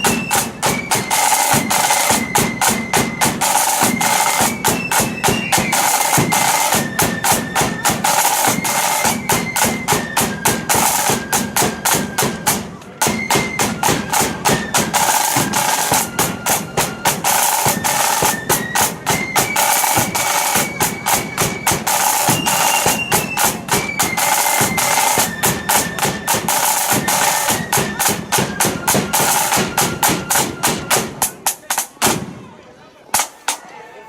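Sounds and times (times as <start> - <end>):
flutes playing melody: 0.0 - 31.5
rapid snare drumming: 0.0 - 32.4, 33.2 - 33.6.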